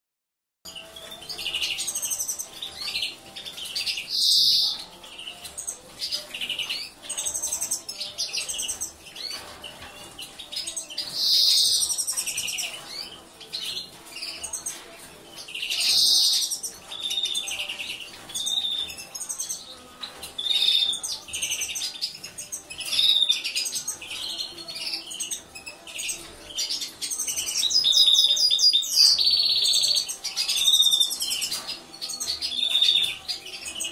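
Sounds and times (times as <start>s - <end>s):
goldfinch chirping and twittering: 0.7s - 33.9s.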